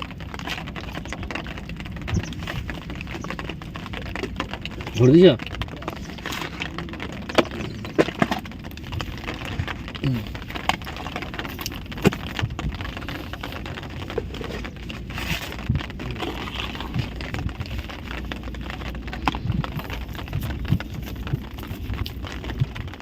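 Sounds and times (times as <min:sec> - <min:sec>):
light rain falling: 0:00.0 - 0:23.0.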